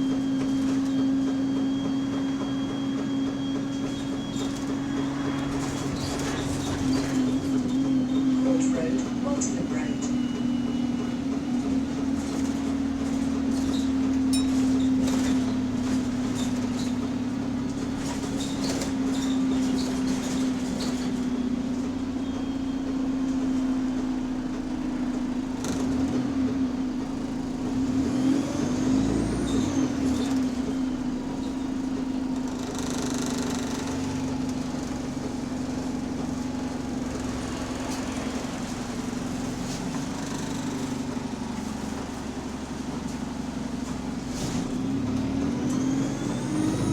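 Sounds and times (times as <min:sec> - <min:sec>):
bus engine humming: 0:00.0 - 0:46.9.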